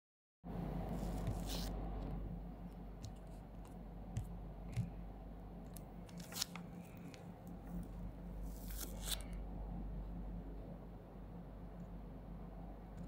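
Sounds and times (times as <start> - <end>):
low electrical hum: 0.5 - 13.0.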